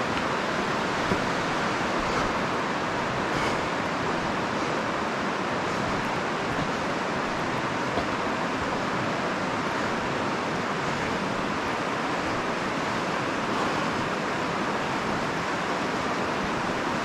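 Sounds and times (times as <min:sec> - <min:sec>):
river running over rocks: 0:00.0 - 0:17.0.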